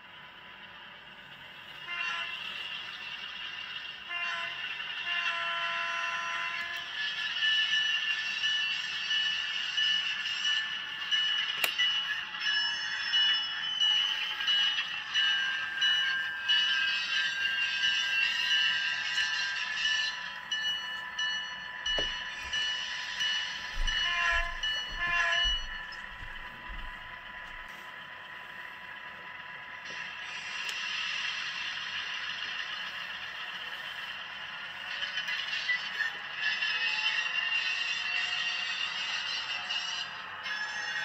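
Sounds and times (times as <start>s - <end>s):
model locomotive engine sounds: 0.0s - 41.0s
steady high tones: 6.5s - 41.0s.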